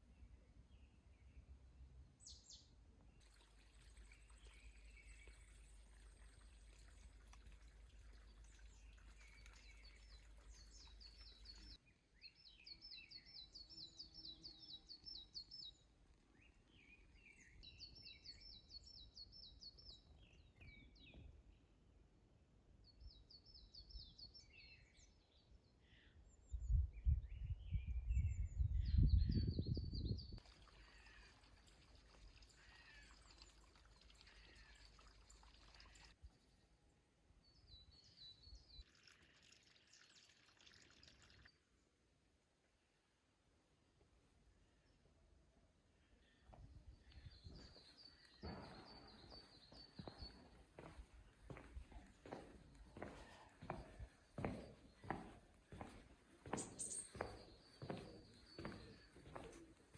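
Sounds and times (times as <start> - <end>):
songbirds trilling and chirping: 0.0 - 21.8, 22.8 - 41.6, 44.5 - 59.9.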